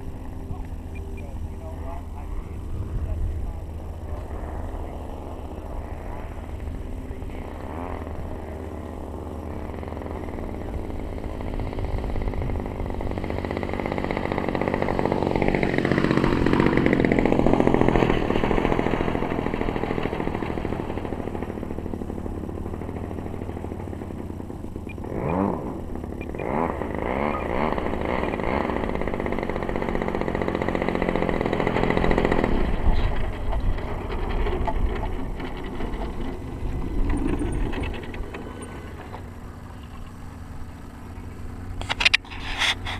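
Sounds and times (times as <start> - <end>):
model plane engine in flight: 0.0 - 42.9.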